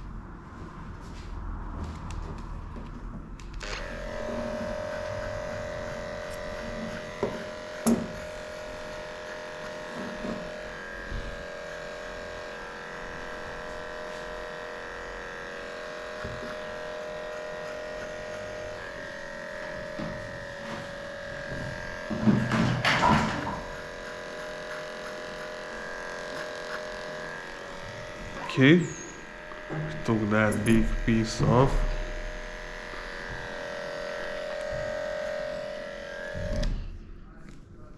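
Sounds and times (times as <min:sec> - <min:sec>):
electric clippers humming: 0:03.4 - 0:37.1.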